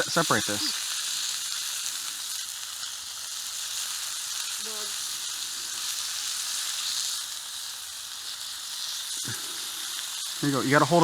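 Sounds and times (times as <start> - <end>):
bacon sizzling: 0.0 - 11.0.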